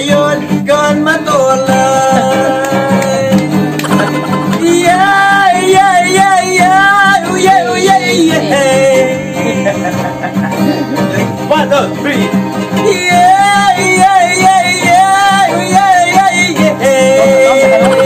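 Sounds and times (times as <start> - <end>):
acoustic guitar strumming: 0.0 - 18.0
man singing: 0.0 - 18.0
ukulele strumming: 1.6 - 18.0.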